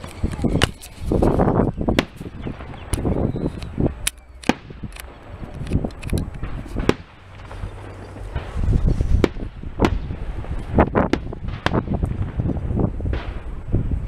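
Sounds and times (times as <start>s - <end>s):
fireworks cracks and pops: 0.0s - 14.0s
low rumbling: 0.0s - 14.0s.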